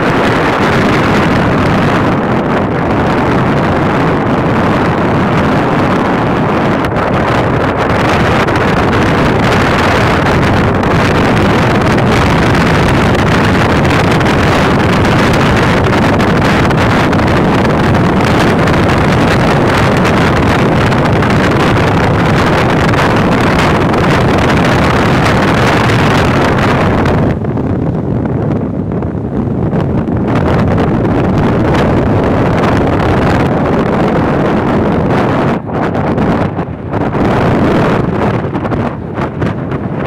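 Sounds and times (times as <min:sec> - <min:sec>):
boat engine running: 0:00.0 - 0:40.0
wind buffeting microphone: 0:00.0 - 0:40.0.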